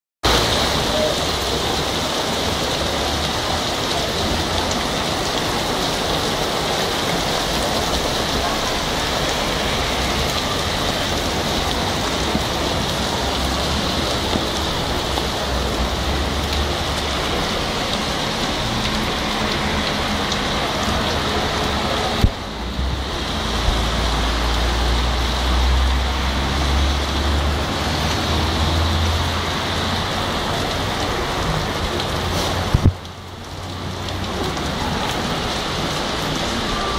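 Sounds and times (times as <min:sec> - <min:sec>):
heavy rain splashing into water: 0:00.2 - 0:36.9.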